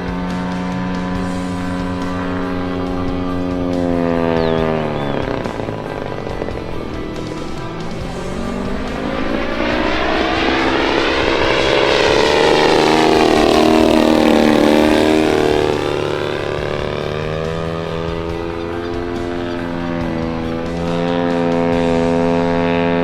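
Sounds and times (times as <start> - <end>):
model plane engine in flight: 0.0 - 23.0.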